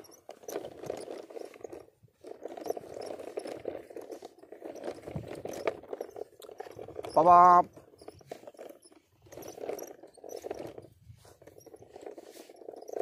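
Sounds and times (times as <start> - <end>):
toy truck wheels scraping on sand: 0.0 - 13.0.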